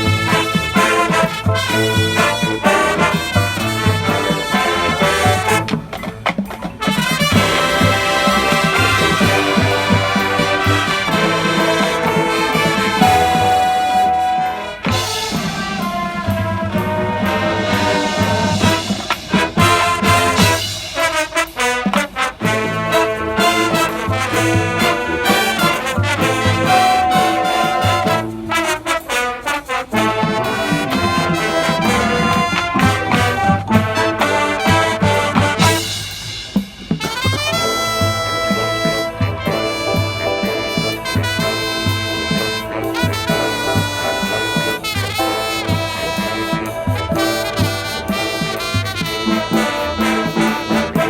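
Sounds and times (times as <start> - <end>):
drum hits: 0.0 - 51.0
marching band brass chords: 0.0 - 51.0.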